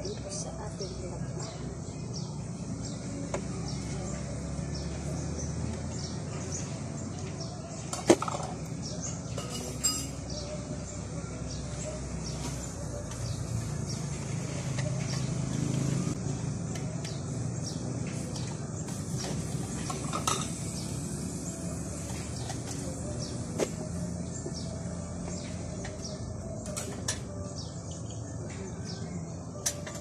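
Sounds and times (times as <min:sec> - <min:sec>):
faint birds chirping: 0:00.0 - 0:30.0.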